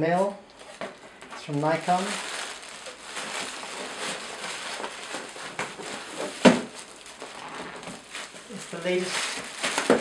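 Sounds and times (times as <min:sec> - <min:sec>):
plastic packing rustling: 0:00.6 - 0:10.0.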